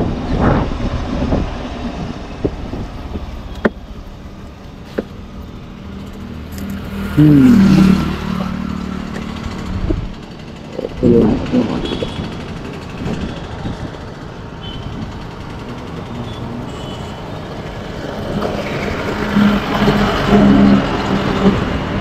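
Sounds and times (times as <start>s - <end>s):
motorbike and rickshaw engines: 0.0s - 22.0s
heavy engine drone: 1.9s - 22.0s.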